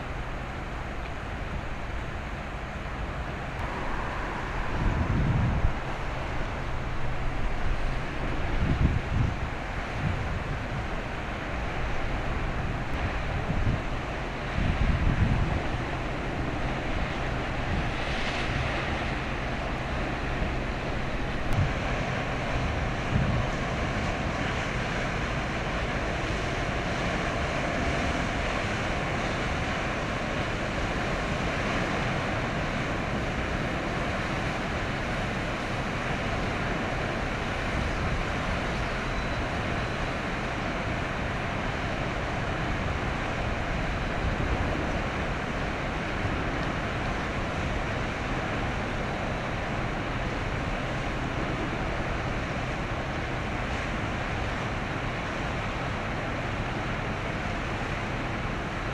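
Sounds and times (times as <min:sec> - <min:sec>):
low steady drone: 0:00.0 - 0:58.9
waves: 0:00.0 - 0:58.9
wind on microphone: 0:00.0 - 0:58.9.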